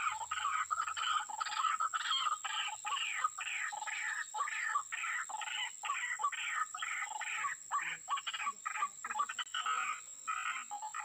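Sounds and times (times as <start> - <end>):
bird calling harsh repeated notes: 0.0 - 11.0.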